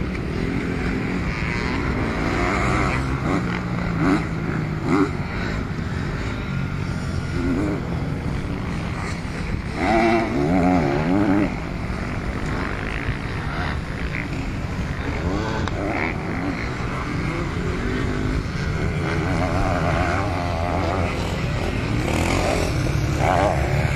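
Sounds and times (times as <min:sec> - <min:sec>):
motocross bike engines revving: 0:00.0 - 0:23.9.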